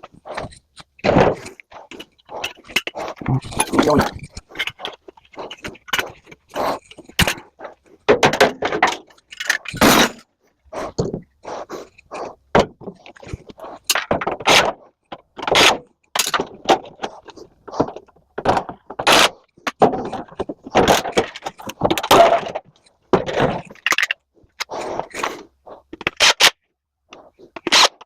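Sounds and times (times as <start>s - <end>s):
metal clanks and scraping: 0.0s - 26.5s.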